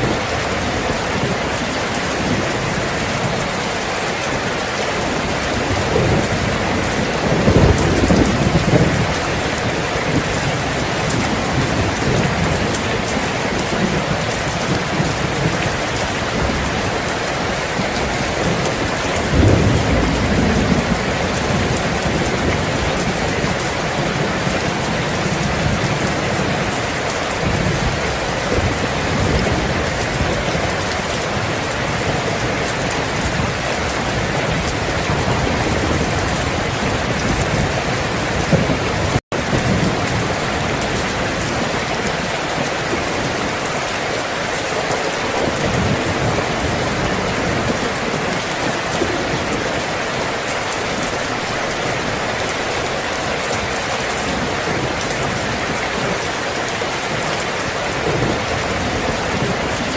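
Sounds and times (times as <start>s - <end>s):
low rolling thunder: 0.0s - 44.0s, 44.9s - 50.2s
heavy rain falling: 0.0s - 59.9s.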